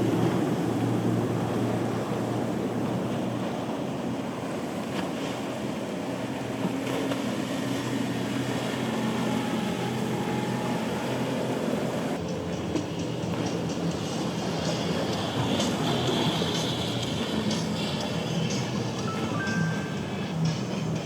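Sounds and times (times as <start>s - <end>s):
boat engines droning: 0.0s - 21.0s
waves: 0.0s - 21.0s
wind: 0.0s - 21.0s.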